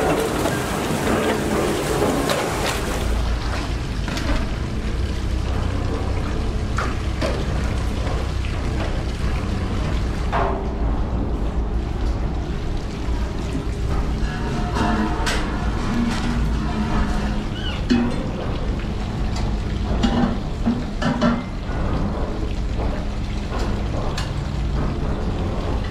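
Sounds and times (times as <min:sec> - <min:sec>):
liquid sloshing and splashing: 0:00.0 - 0:25.9
steady low rumble: 0:03.0 - 0:25.9.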